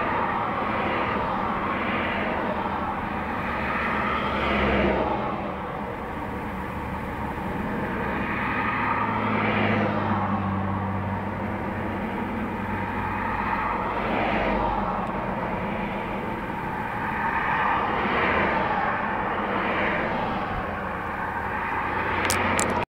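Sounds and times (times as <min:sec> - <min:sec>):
low engine hum: 0:00.0 - 0:22.9
traffic passing: 0:00.0 - 0:22.9.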